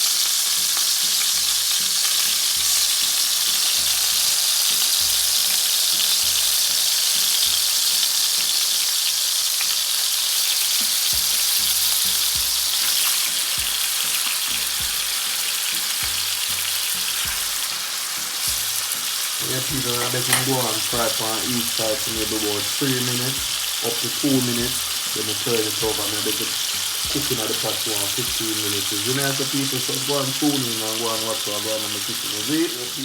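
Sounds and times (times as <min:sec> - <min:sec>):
meat sizzling in a frying pan: 0:00.0 - 0:33.0.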